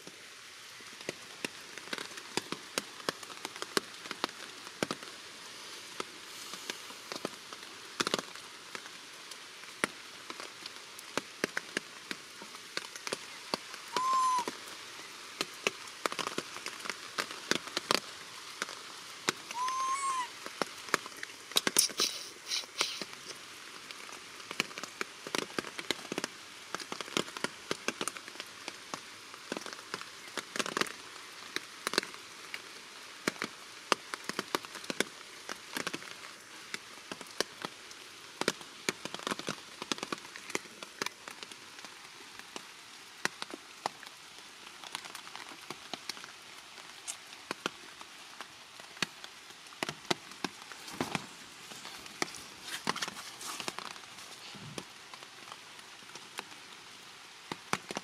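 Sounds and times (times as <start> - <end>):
rain hissing: 0.0 - 58.0
raindrops tapping surfaces: 0.0 - 58.0.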